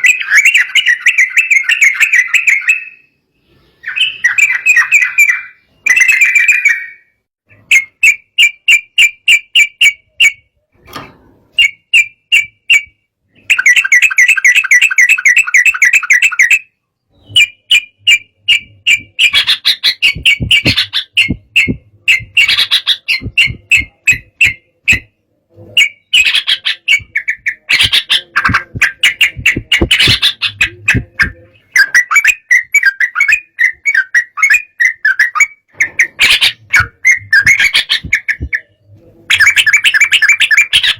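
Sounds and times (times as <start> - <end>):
bulbul chattering song: 3.8 - 10.6, 11.5 - 40.9.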